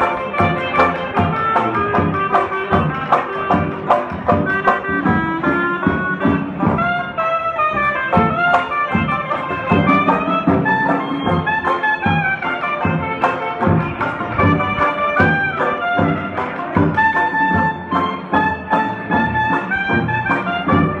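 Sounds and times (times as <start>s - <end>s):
clarinet melody: 0.0s - 21.0s
drums steady beat: 0.0s - 21.0s
strummed banjos: 0.0s - 21.0s.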